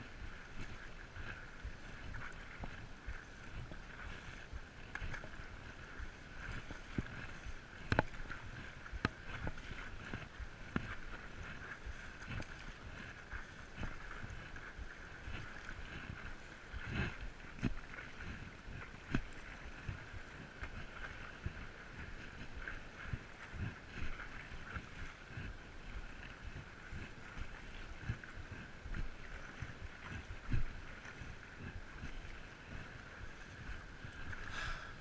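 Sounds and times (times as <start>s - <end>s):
water sloshing and splashing: 0.0s - 35.0s.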